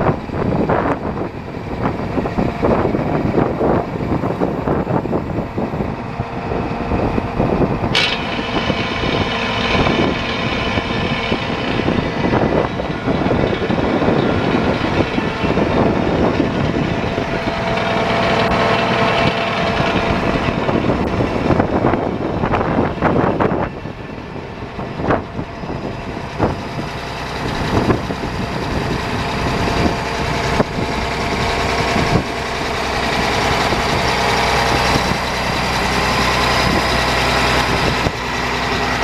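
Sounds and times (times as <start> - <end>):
tractor diesel engine idling: 0.0 - 39.0.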